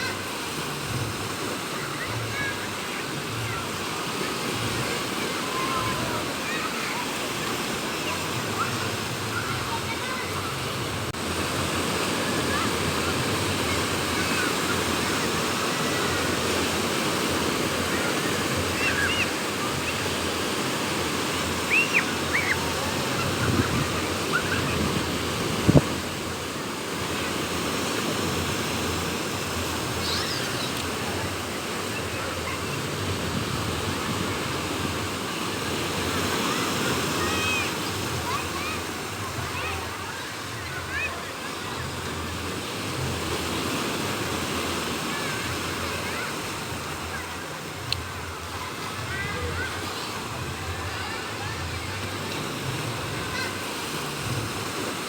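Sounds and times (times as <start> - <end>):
sea waves washing onto beach: 0.0 - 55.0
wind: 0.0 - 55.0.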